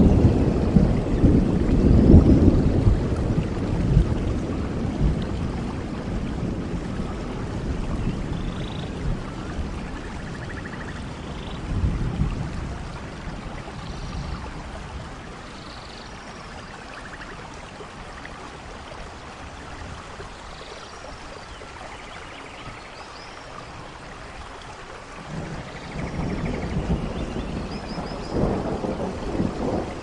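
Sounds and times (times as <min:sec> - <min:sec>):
low rumble of thunder: 0:00.0 - 0:20.2, 0:23.6 - 0:30.0
steady rain: 0:00.0 - 0:30.0.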